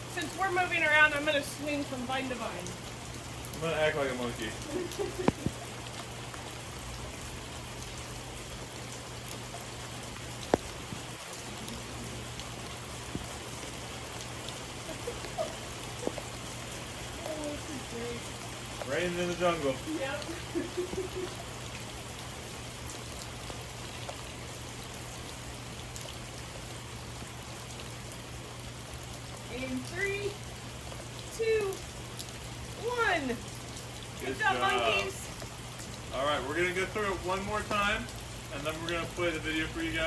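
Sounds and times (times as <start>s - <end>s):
steady hiss: 0.0s - 30.0s, 32.2s - 40.0s
low steady hum: 0.0s - 40.0s
steady rain falling: 0.0s - 40.0s.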